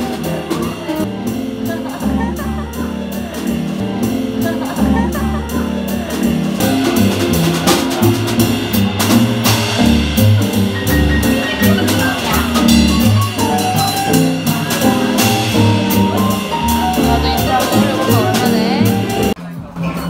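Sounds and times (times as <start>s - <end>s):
double bass: 0.0s - 20.0s
drummer playing cymbals: 0.0s - 20.0s.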